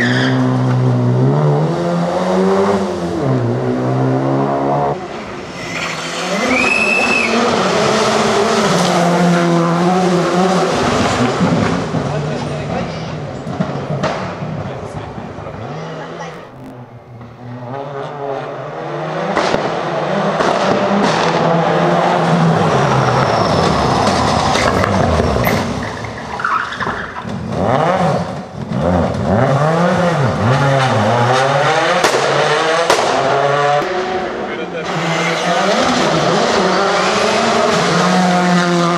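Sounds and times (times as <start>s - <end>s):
rally car engines revving: 0.0s - 38.9s
exhaust bangs: 2.6s - 38.9s.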